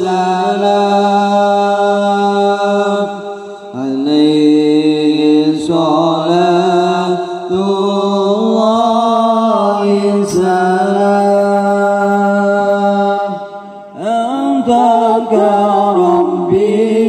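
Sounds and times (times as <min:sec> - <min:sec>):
devotional chanting over loudspeakers: 0:00.0 - 0:17.0.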